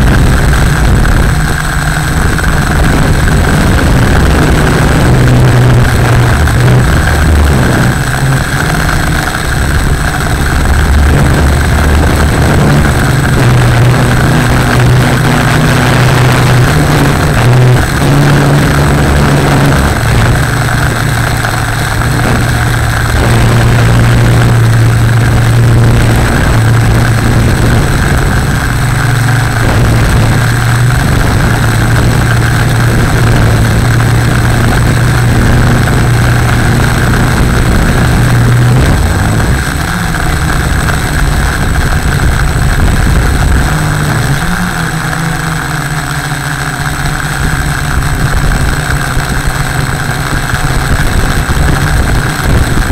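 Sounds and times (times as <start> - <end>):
drone motors humming: 0.0 - 52.9.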